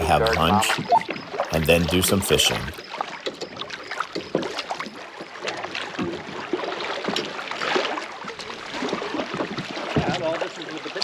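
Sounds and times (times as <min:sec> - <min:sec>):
paddle splashes and drips: 0:00.0 - 0:11.0.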